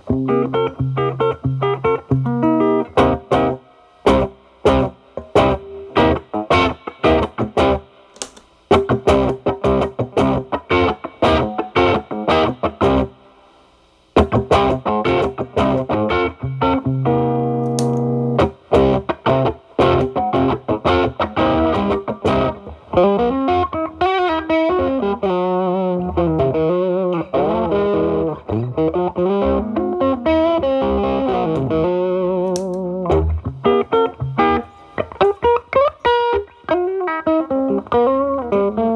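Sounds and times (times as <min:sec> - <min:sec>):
distorted electric guitar: 0:00.0 - 0:13.2, 0:14.2 - 0:38.9.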